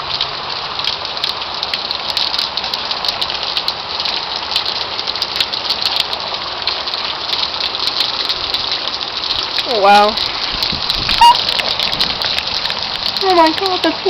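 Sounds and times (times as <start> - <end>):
heavy rain pouring: 0.0 - 14.0
raindrops ticking near microphone: 0.0 - 14.0.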